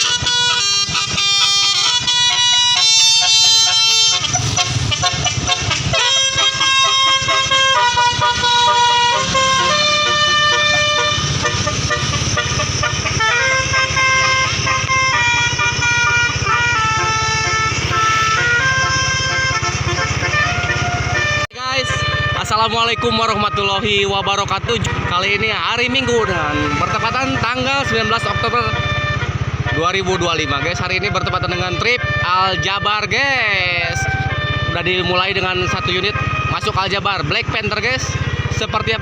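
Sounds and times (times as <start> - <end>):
air horns playing a tune: 0.0 - 39.0
bus engine running: 0.0 - 39.0.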